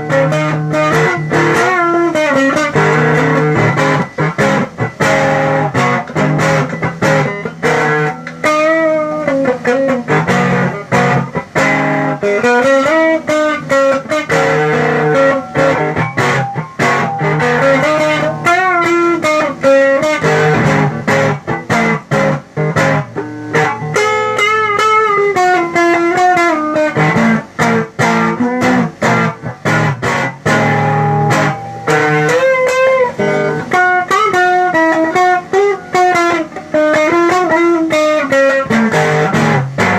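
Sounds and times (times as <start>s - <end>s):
electric guitar lead with bent notes: 0.0s - 39.9s.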